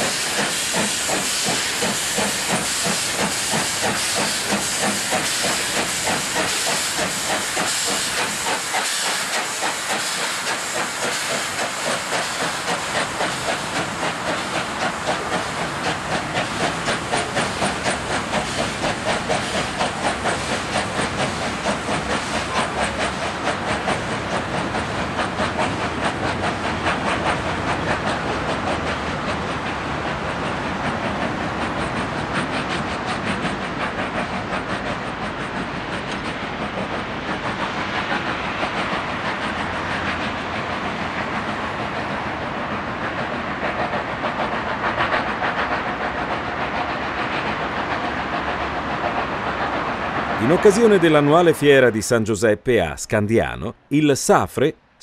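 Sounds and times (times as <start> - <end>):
steam locomotive exhaust chuffs: 0.0 - 52.9
locomotive steam hiss: 0.0 - 54.5.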